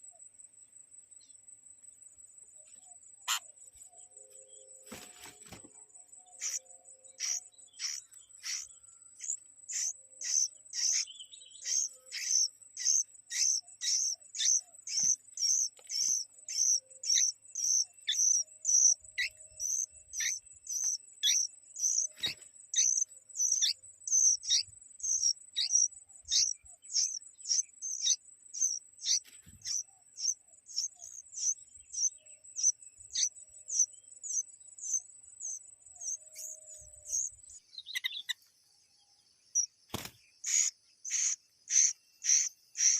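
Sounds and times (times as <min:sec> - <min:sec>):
bird chirping: 0:00.0 - 0:42.9
insect trilling: 0:06.4 - 0:38.4, 0:39.6 - 0:42.9.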